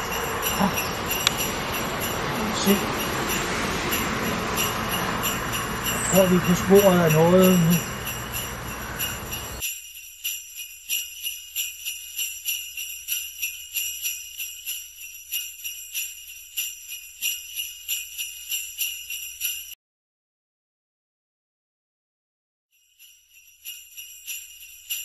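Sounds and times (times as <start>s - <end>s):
sleigh bells jingling: 0.0s - 19.8s, 22.7s - 25.0s.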